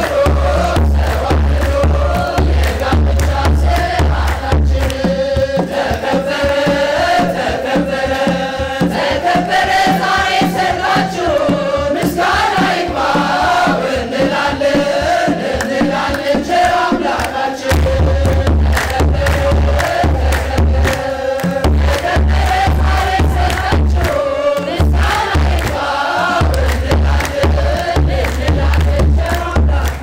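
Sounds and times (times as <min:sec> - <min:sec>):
group singing a hymn: 0:00.0 - 0:30.0
hand drum beating: 0:00.0 - 0:30.0
rhythmic handclapping: 0:00.0 - 0:30.0.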